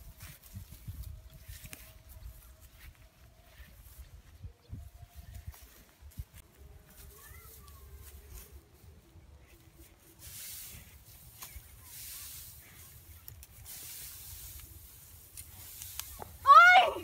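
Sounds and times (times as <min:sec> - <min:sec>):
dry straw rustling and crunching: 0:00.0 - 0:17.0.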